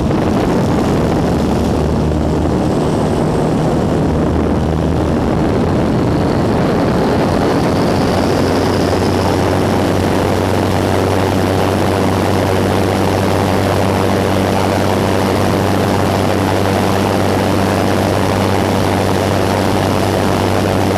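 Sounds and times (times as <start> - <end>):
propeller plane engine running: 0.0 - 20.9
wind rush over airframe: 0.0 - 20.9.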